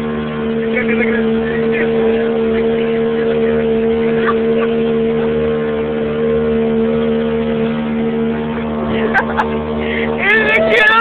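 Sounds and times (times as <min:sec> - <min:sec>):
motorboat engine droning: 0:00.0 - 0:11.0
water noise: 0:00.0 - 0:11.0.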